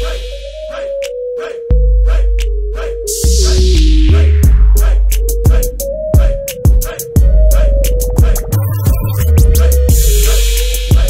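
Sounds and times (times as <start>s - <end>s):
electronic hip-hop music: 0.0s - 11.0s.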